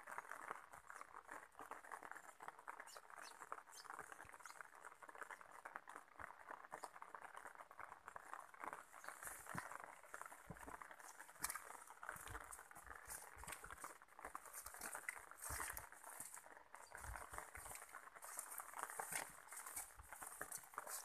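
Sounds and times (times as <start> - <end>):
light rain pattering: 0.0 - 21.0.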